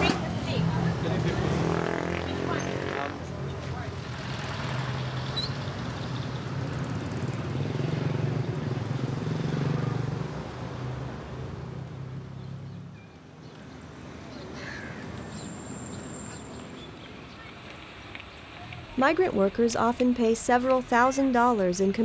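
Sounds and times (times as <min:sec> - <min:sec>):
traffic engines humming: 0:00.0 - 0:22.0.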